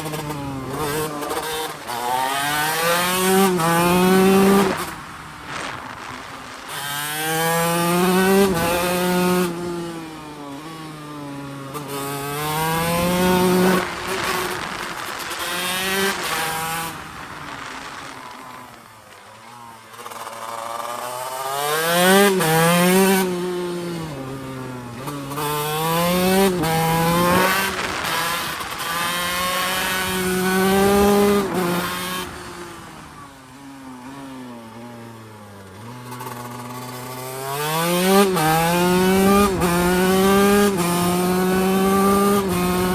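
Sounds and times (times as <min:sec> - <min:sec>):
two-stroke engine accelerating: 0:00.0 - 0:42.9.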